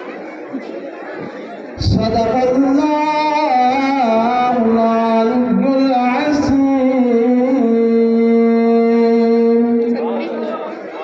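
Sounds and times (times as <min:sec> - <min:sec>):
man chanting melodically: 0:01.8 - 0:11.0.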